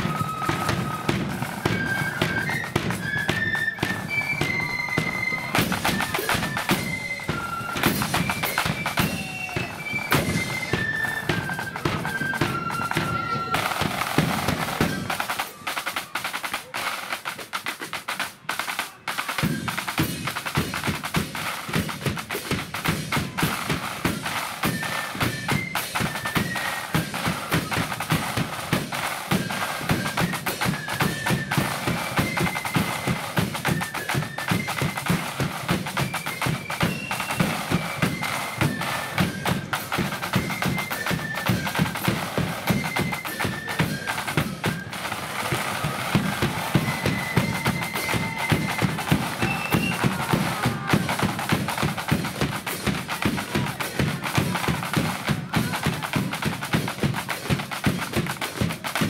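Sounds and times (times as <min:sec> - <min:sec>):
high flute melody: 0:00.0 - 0:59.0
snare drums rattling: 0:00.0 - 0:59.0.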